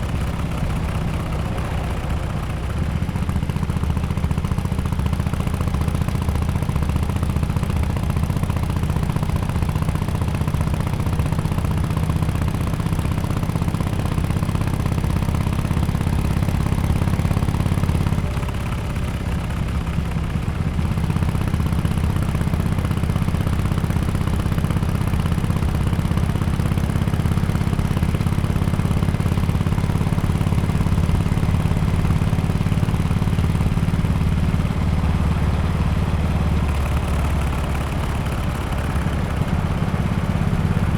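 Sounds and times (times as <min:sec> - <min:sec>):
motorcycle engine running low: 0:00.0 - 0:40.9.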